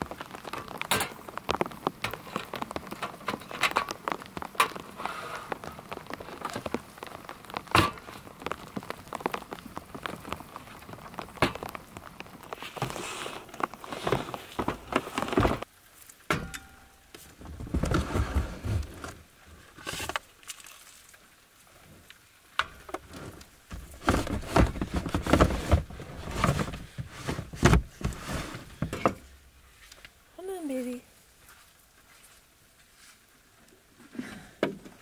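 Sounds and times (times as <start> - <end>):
rain patter: 0.0 - 35.0.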